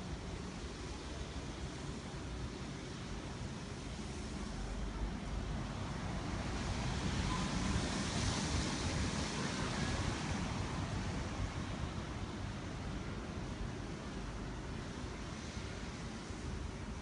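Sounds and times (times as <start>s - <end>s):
distant city traffic: 0.0s - 17.0s
wind: 0.0s - 17.0s.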